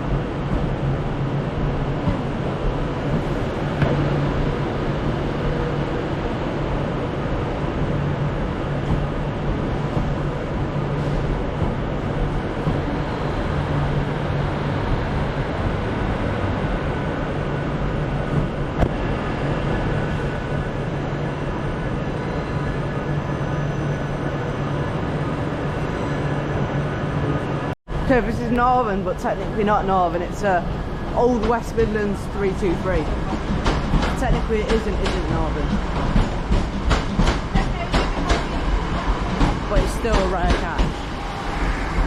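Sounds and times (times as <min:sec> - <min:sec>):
train humming and rumbling: 0:00.0 - 0:42.0.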